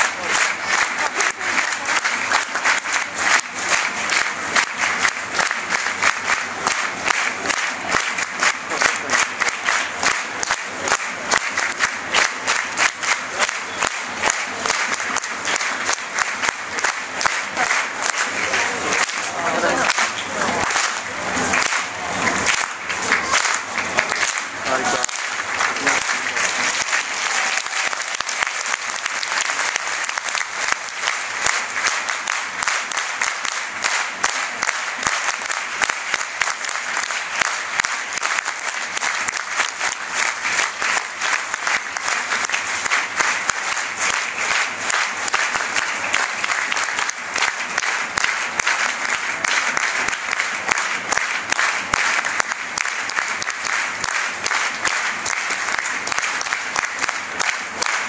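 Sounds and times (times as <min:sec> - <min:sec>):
crowd applause: 0:00.0 - 0:58.0.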